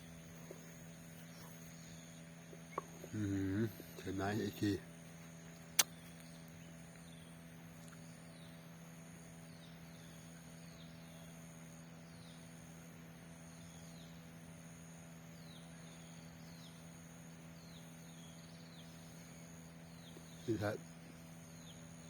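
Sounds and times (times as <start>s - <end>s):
high insect drone: 0.0s - 22.0s
low steady hum: 0.0s - 22.0s.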